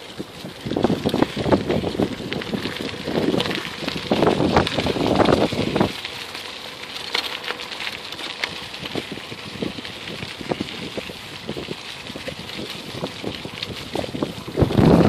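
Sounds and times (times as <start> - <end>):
bicycle tyres rolling over dry leaves: 0.0 - 15.0.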